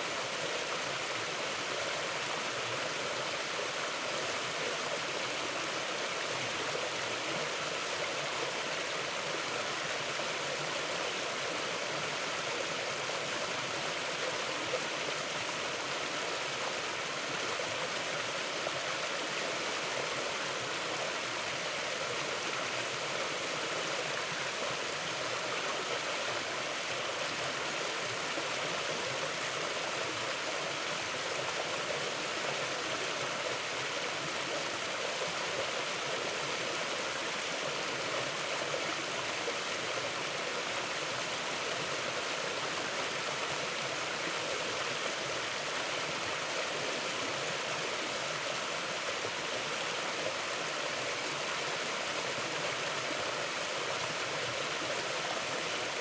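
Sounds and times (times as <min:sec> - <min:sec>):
mountain river flowing: 0:00.0 - 0:56.0.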